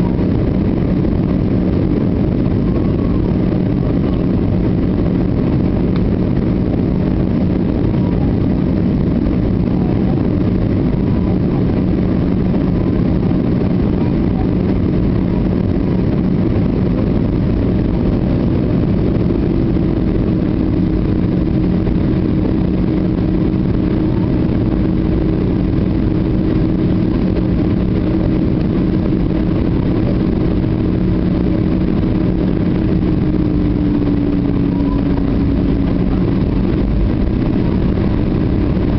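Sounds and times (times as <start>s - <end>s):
airflow and engine rumble: 0.0s - 38.9s
constant low hum: 0.0s - 38.9s
higher hum: 0.0s - 38.9s.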